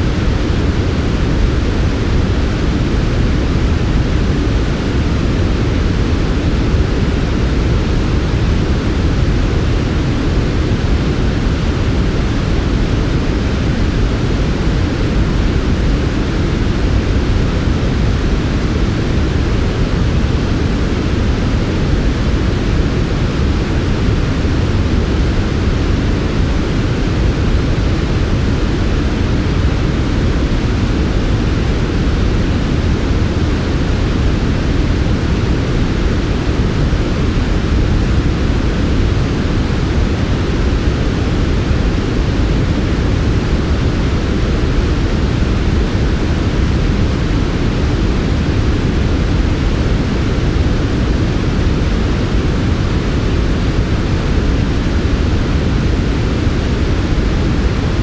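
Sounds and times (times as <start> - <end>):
steady low synthetic hiss: 0.0 - 58.0.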